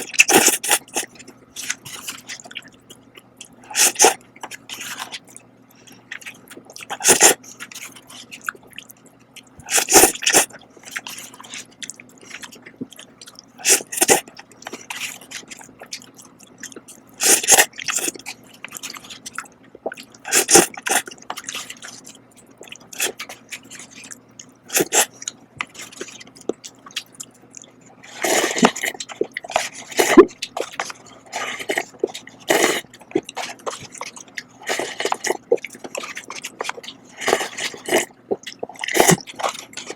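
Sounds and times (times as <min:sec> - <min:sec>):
person chewing noodles: 0:00.0 - 0:39.9.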